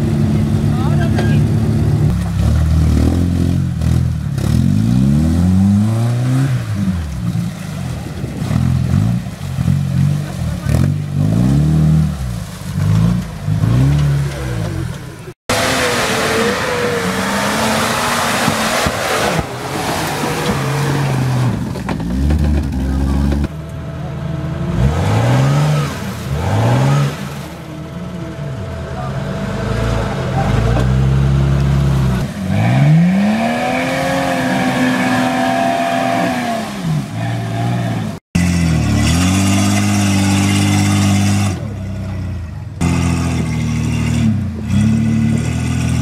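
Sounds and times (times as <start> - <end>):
off-road engine revving: 0.0 - 46.0.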